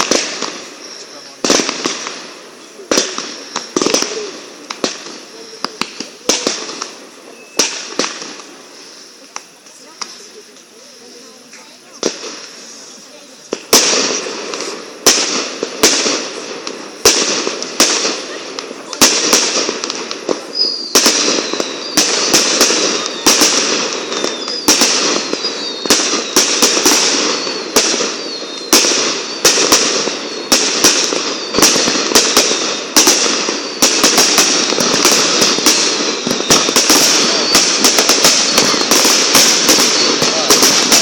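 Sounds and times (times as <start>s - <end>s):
falling firework whistles: 0.0s - 41.0s
firework crackling: 0.0s - 41.0s
firework shell bursts: 0.0s - 41.0s.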